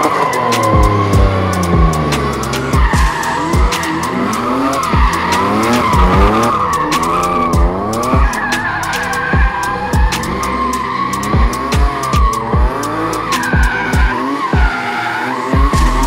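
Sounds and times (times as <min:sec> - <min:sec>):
car engine revving: 0:00.0 - 0:16.0
music beat thumping: 0:00.0 - 0:16.0
tyres squealing: 0:00.0 - 0:16.0.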